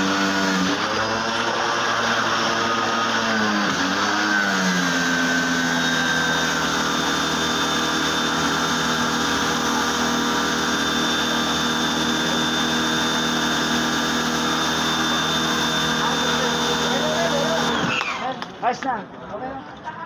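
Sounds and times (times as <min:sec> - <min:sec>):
motor running steadily: 0:00.0 - 0:18.5.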